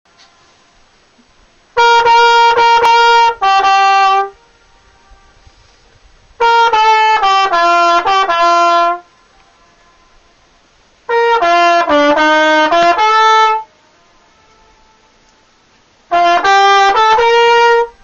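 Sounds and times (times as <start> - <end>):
solo brass instrument held notes: 0.1 - 18.0.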